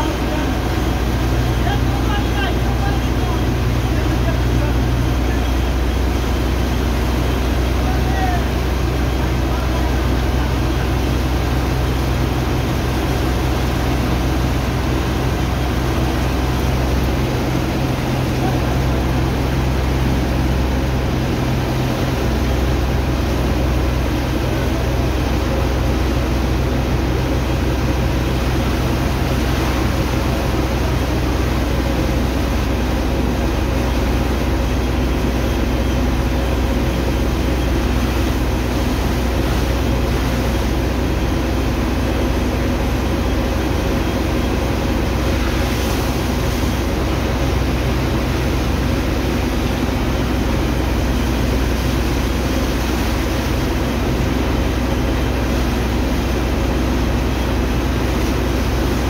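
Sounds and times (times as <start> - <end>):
water pump engine running: 0.0 - 59.0.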